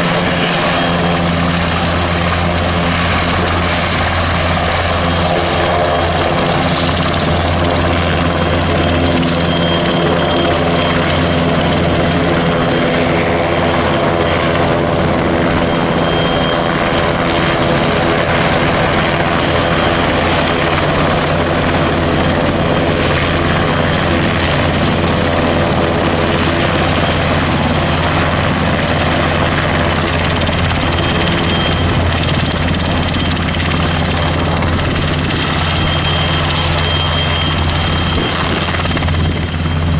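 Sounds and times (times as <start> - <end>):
helicopter engines and rotor drone: 0.0 - 39.9.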